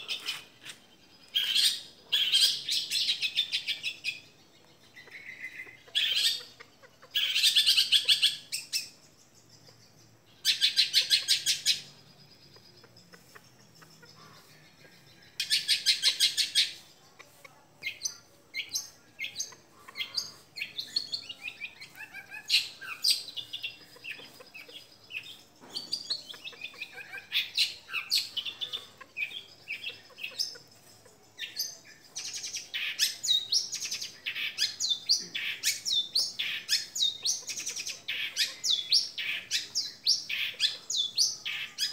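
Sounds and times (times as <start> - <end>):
bird harsh trills: 0.0 - 9.0, 10.4 - 41.9.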